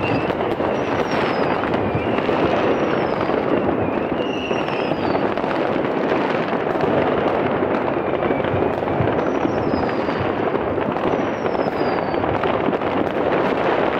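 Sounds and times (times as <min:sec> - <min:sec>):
fireworks crackling and banging: 0:00.0 - 0:13.9.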